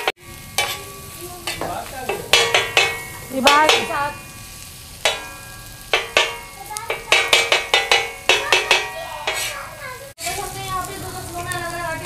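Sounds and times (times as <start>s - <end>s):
spatula clanking and scraping on pan: 0.0s - 10.6s
onions sizzling in oil: 0.0s - 12.0s.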